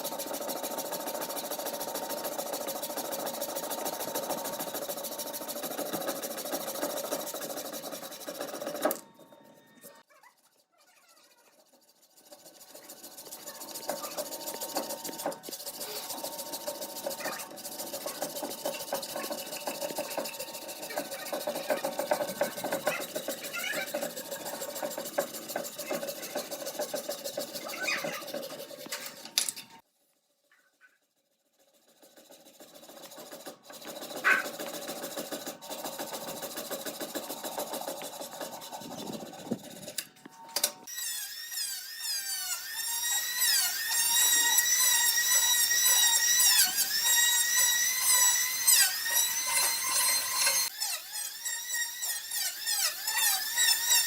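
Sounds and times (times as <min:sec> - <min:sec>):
wood rasping under woodworking tool: 0:00.0 - 0:29.8, 0:31.0 - 0:40.0, 0:40.8 - 0:54.0.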